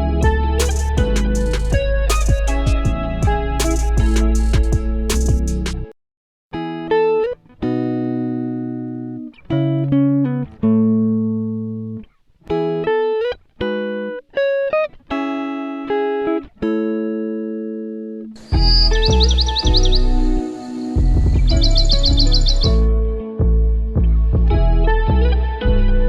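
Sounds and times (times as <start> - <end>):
plucked guitar instrumental: 0.0 - 5.9, 6.5 - 26.0.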